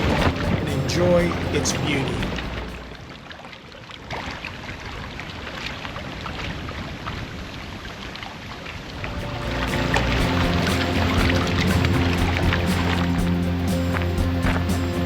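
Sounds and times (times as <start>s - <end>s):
small waves lapping and splashing: 0.0s - 14.8s.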